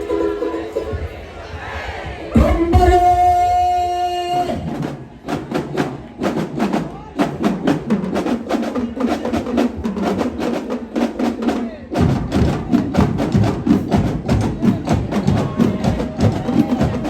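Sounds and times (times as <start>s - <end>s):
crowd voices: 0.0s - 17.0s
drum team playing: 0.0s - 17.0s.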